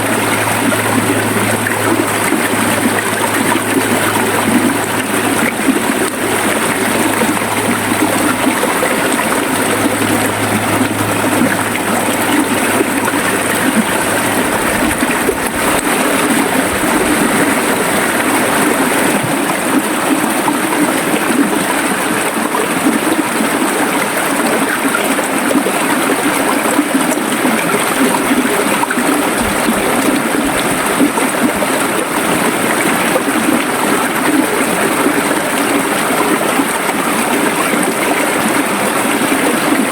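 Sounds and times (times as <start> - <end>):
river water rushing and gurgling: 0.0 - 39.9.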